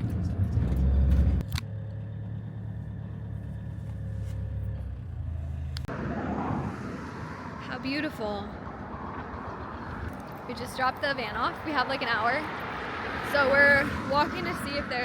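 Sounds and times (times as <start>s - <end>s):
road rumble: 0.0s - 15.0s
van engine hum: 0.0s - 15.0s.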